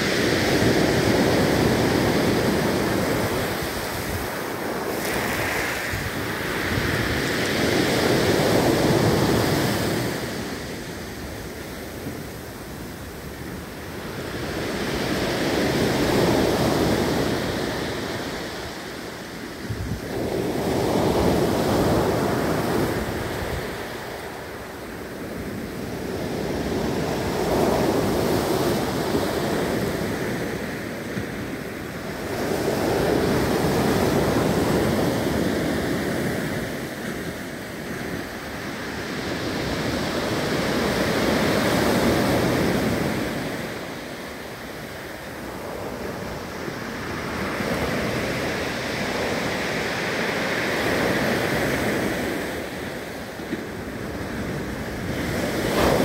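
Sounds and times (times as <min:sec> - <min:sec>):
waves breaking on breakwater: 0:00.0 - 0:24.7, 0:25.3 - 0:56.0
waves washing on shore: 0:00.0 - 0:56.0.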